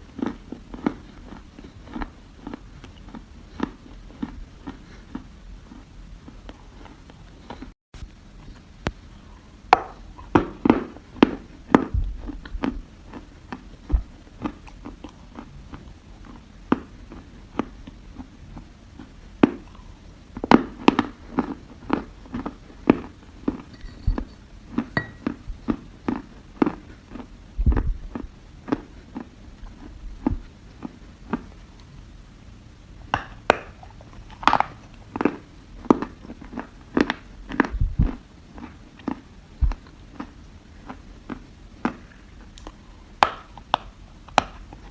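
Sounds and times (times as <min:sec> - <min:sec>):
crunchy chewing of soil: 0:00.0 - 0:07.8, 0:08.4 - 0:32.1, 0:33.0 - 0:44.9.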